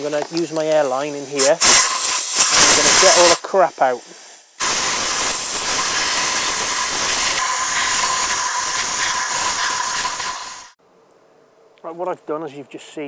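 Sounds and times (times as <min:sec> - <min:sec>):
compressed air blow gun hissing: 0:00.0 - 0:10.8.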